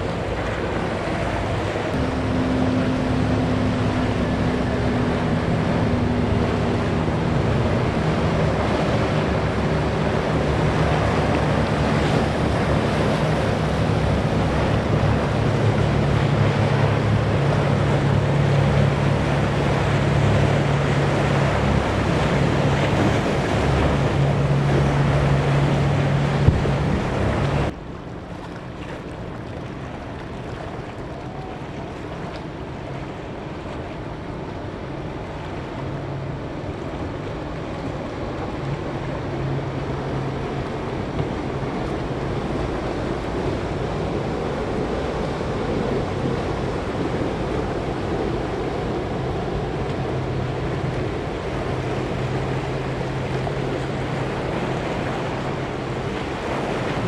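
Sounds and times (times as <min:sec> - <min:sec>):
powerboat engines running: 0:00.0 - 0:57.0
waves breaking: 0:00.0 - 0:57.0
wind on microphone: 0:00.0 - 0:57.0.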